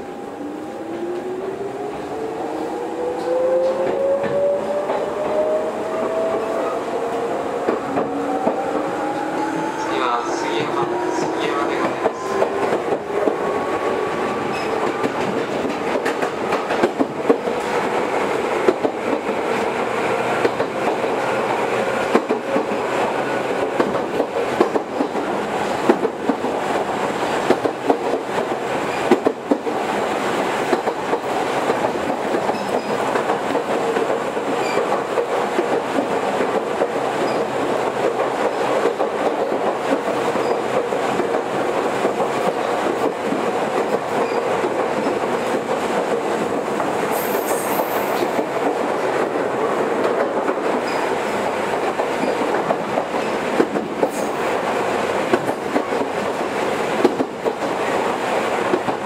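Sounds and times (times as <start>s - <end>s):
train wheels rumbling on rail: 0.0s - 59.0s
rail joint clicks: 3.1s - 59.0s.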